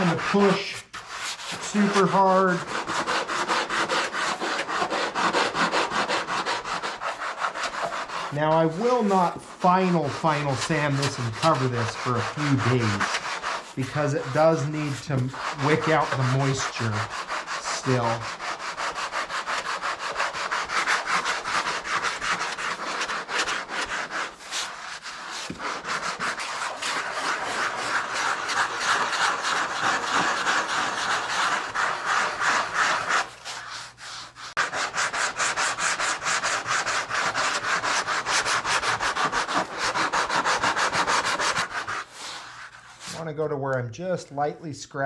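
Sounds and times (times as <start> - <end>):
sandpaper rubbing on wood: 0.0 - 43.3.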